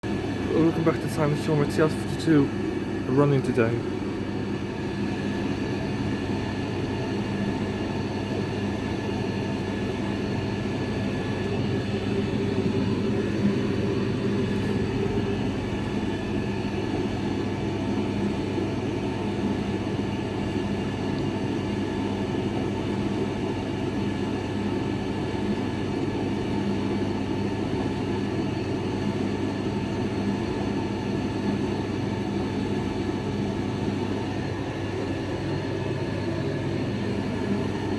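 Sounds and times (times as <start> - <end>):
appliance droning: 0.0 - 37.9.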